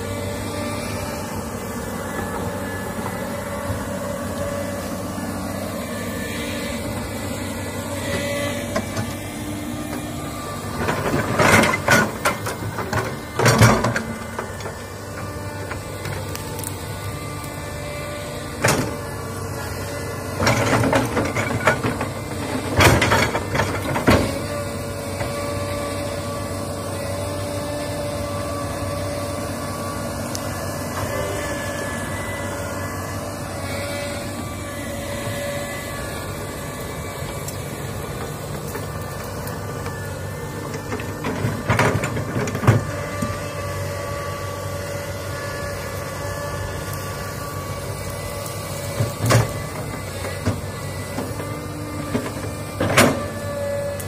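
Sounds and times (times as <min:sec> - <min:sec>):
steady whine: 0:00.0 - 0:53.3
excavator diesel engine running: 0:00.0 - 0:54.0.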